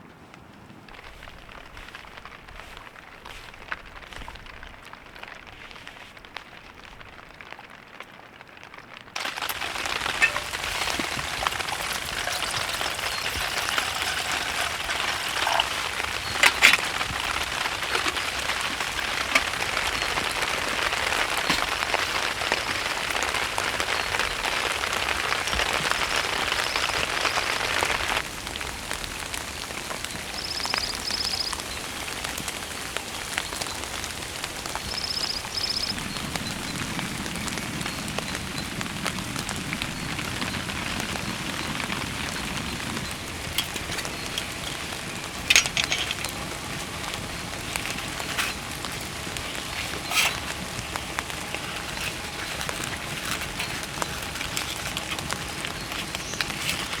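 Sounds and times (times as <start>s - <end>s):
heavy rain falling: 6.4s - 57.0s.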